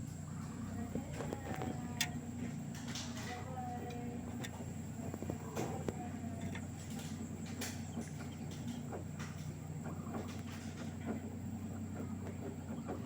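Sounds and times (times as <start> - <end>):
washing machine drum humming: 0.0 - 13.0.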